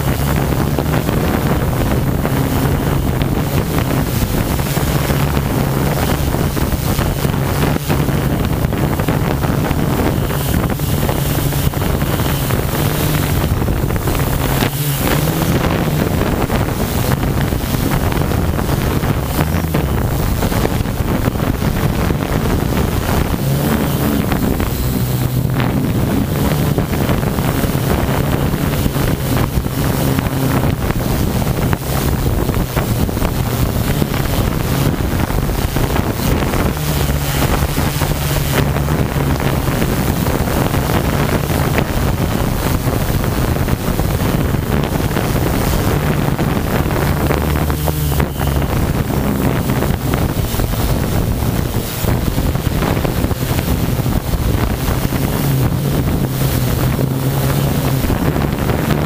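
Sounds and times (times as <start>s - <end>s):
multirotor drone motors and propellers: 0.0s - 59.0s
wind noise on microphone: 0.0s - 59.0s.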